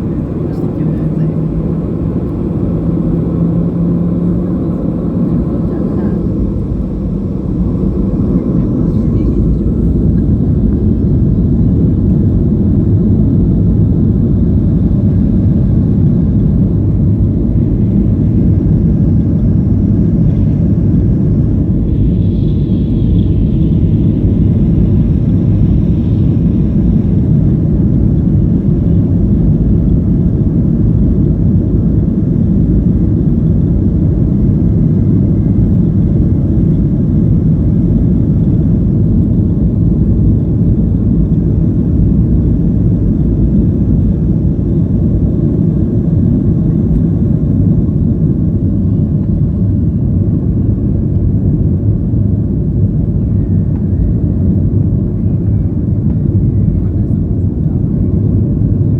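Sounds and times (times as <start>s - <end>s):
jet engines rumbling in cabin: 0.0s - 58.9s.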